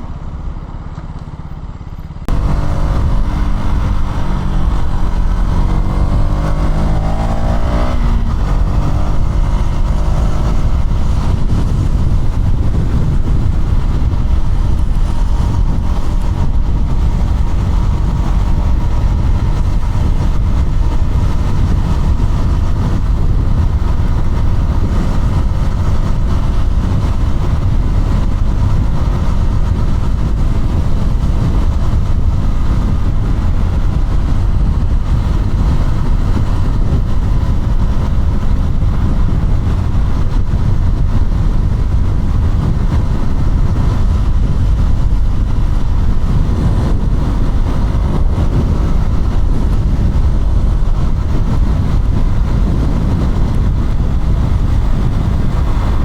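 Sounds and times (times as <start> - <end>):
motorcycle engine accelerating: 0.0 - 56.0
road noise: 0.0 - 56.0
wind rush: 2.2 - 56.0.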